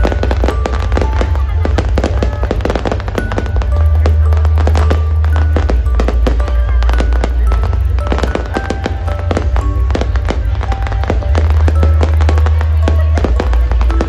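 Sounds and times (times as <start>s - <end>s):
fireworks bursting and crackling: 0.0s - 14.0s
music playing: 0.0s - 14.0s.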